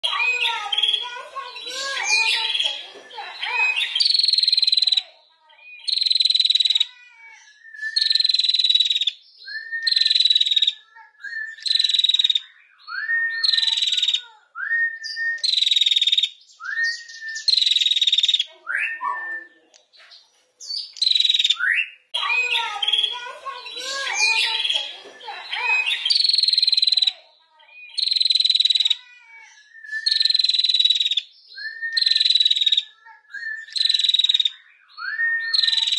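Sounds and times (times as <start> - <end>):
bird calling with buzzy trills: 0.0 - 14.3, 20.6 - 35.9.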